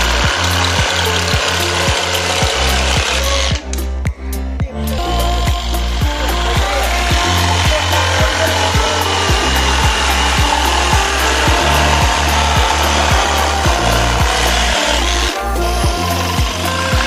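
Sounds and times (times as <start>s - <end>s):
jigsaw cutting wood: 0.0s - 3.8s, 5.2s - 17.0s
background music with beat: 0.0s - 17.0s.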